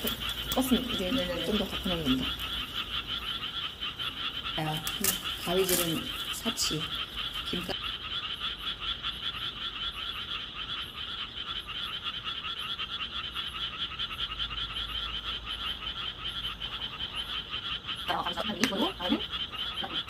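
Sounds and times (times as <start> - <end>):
frogs croaking in chorus: 0.0 - 20.0.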